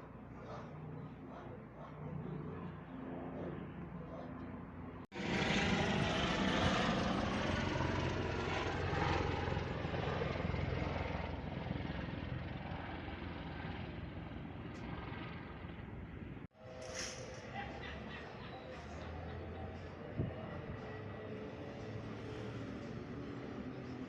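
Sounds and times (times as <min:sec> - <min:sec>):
helicopter passing overhead: 0:00.0 - 0:24.0.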